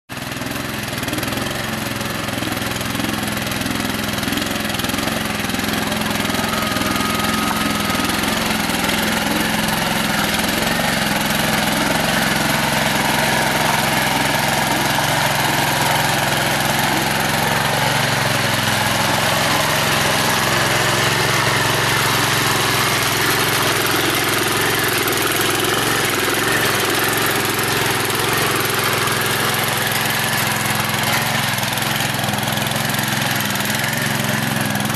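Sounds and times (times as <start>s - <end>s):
tiller engine running: 0.1s - 34.9s
tines churning muddy soil: 0.1s - 34.9s.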